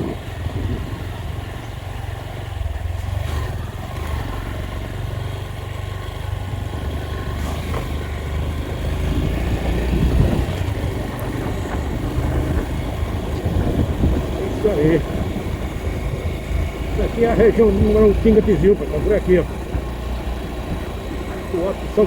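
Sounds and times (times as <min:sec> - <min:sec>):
road and wind rumble: 0:00.0 - 0:22.0
vehicle engine running: 0:00.0 - 0:22.0.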